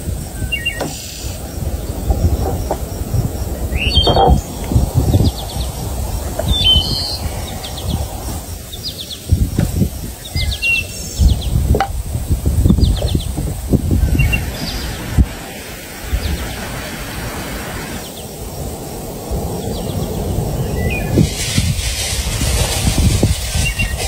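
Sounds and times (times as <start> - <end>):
low rumbling noise: 0.0 - 24.0
small birds chirping: 0.0 - 24.0.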